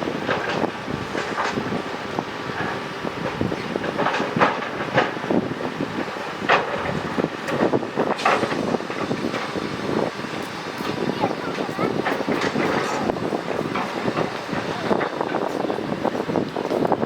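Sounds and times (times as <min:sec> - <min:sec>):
excavator machine noise: 0:00.0 - 0:17.0.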